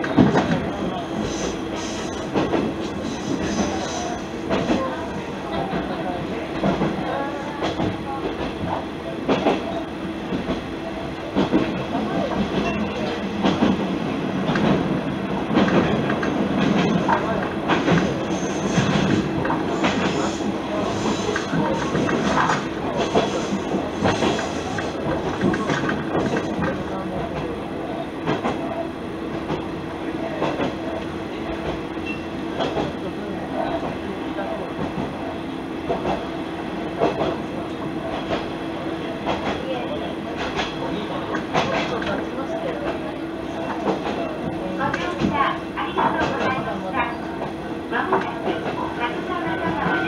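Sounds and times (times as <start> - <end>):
railcar engine drone: 0.0 - 50.0.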